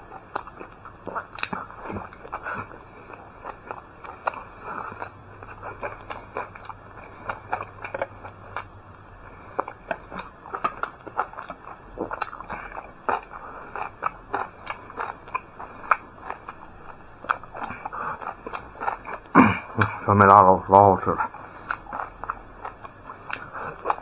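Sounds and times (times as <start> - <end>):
person chewing and biting: 0.0 - 20.0, 21.2 - 24.0.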